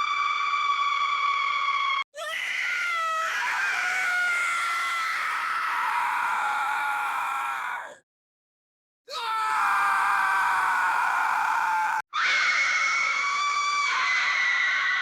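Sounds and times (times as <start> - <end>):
high-pitched ghost scream: 0.0 - 8.0, 9.2 - 15.0.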